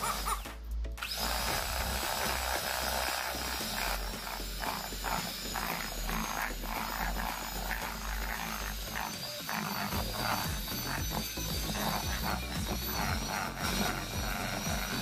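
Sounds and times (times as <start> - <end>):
electric hand mixer whine: 0.0 - 15.0.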